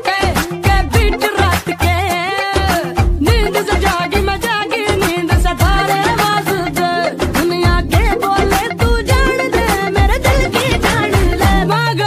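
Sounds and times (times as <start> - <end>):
drum beat: 0.0 - 1.8, 2.4 - 11.7
high singing voice: 0.0 - 12.0.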